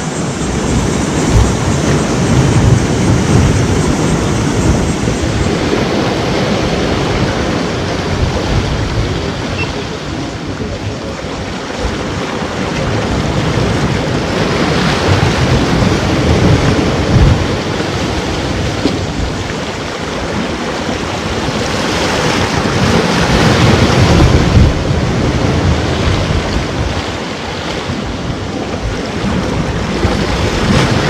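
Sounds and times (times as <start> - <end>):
ocean surf washing ashore: 0.0 - 31.0.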